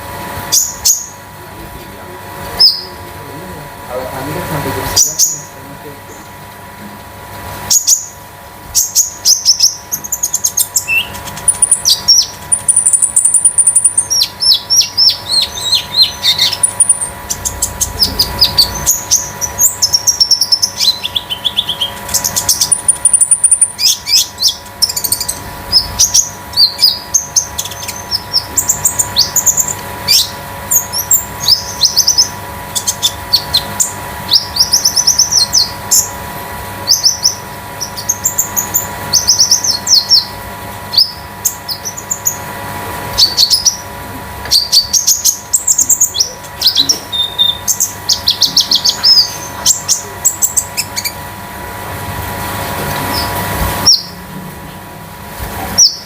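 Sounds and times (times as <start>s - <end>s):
faint electrical hum: 0.0s - 56.0s.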